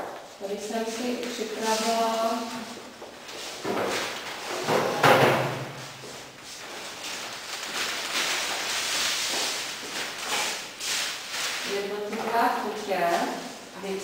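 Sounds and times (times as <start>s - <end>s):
paper sheets rustling and flapping: 0.9s - 13.5s.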